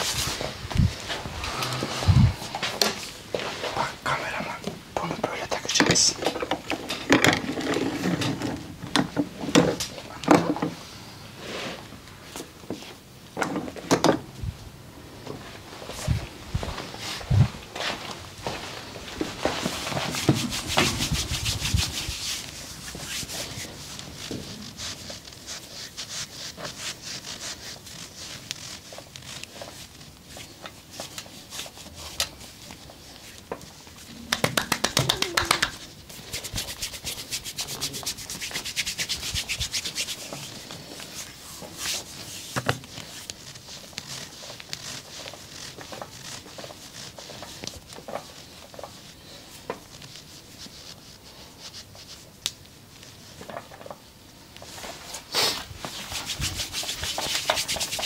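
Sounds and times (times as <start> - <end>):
hands rubbing with scratchy friction: 0.0 - 10.2, 15.4 - 54.0, 54.6 - 58.0.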